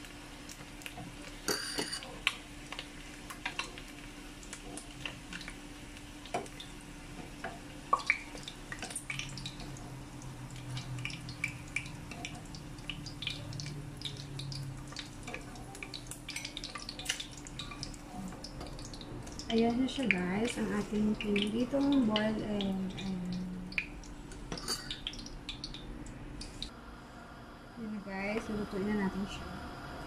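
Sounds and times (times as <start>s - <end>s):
oil popping and crackling: 0.0s - 26.7s
steady low hum: 0.0s - 30.0s.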